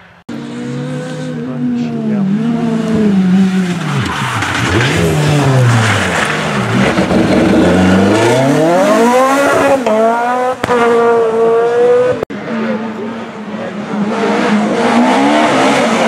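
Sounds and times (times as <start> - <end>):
rally car engine revving hard: 0.3 - 16.0.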